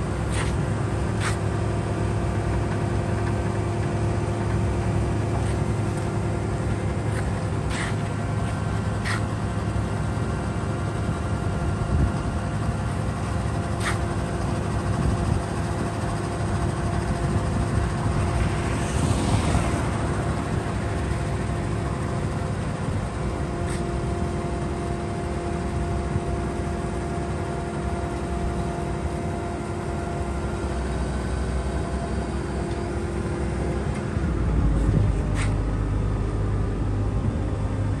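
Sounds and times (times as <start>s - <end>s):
diesel engine running with whine: 0.0s - 38.0s.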